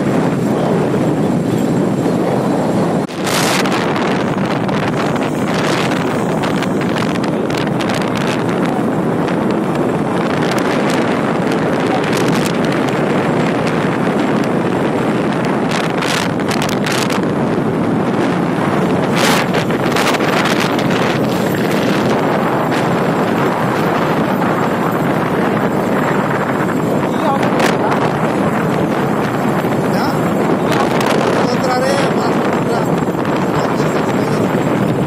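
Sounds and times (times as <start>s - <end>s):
motorcycle engine running: 0.0s - 31.5s
wind rushing over microphone: 0.0s - 35.0s.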